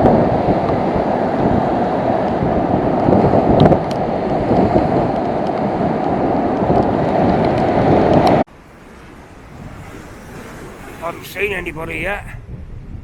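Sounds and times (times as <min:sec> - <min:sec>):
strong wind on microphone: 0:00.0 - 0:08.5, 0:09.2 - 0:13.0.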